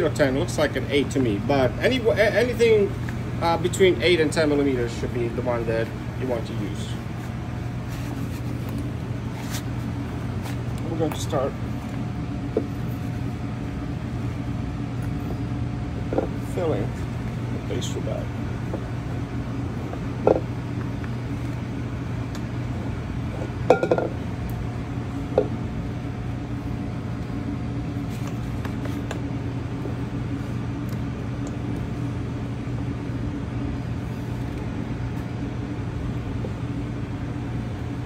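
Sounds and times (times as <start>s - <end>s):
kitchen equipment humming: 0.0s - 38.0s.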